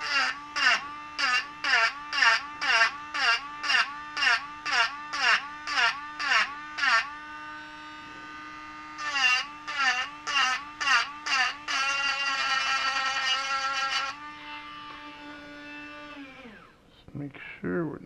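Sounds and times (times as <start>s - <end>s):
handheld power tool motor whining: 0.0s - 16.8s.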